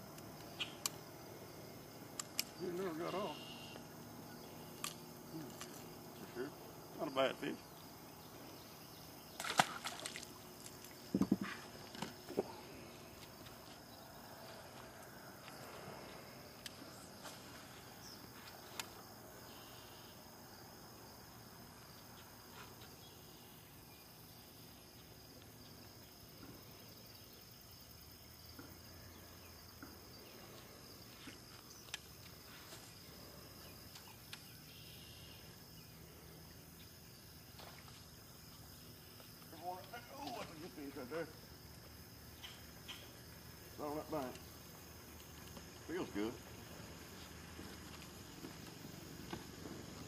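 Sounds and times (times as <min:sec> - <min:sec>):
insect chirring: 0:00.0 - 0:50.0.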